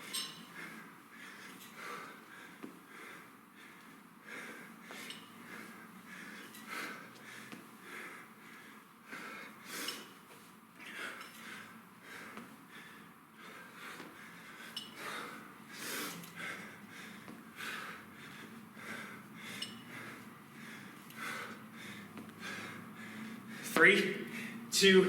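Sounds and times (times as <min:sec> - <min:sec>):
man breathing heavily: 0:00.0 - 0:24.9.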